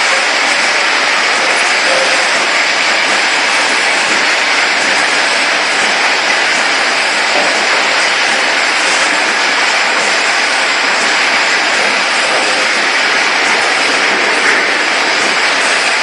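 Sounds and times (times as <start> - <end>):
bottling line machinery noise: 0.0 - 16.0.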